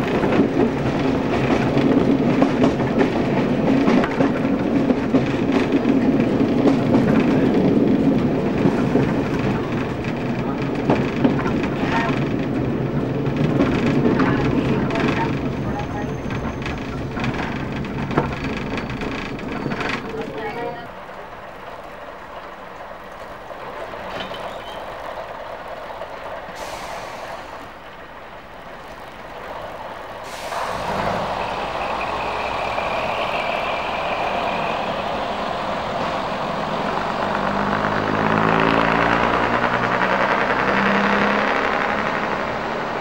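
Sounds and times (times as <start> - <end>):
train diesel engines: 0.0 - 43.0.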